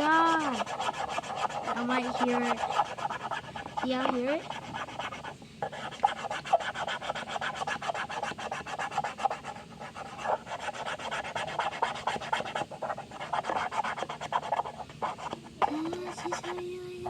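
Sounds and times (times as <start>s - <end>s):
marker scratching on plastic: 0.0s - 17.0s.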